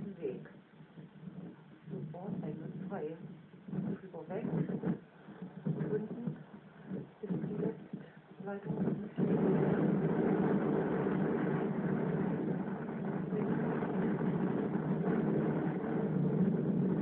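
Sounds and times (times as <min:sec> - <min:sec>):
low droning rumble: 0:00.0 - 0:17.0.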